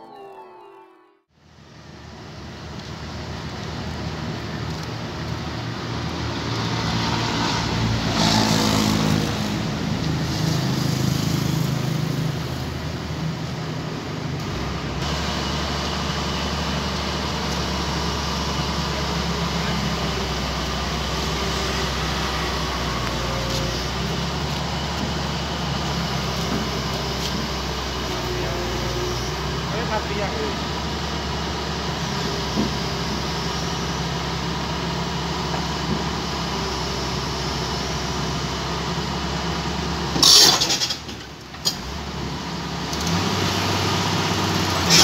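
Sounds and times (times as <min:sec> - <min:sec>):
heavy diesel engine running: 0:08.4 - 0:45.0.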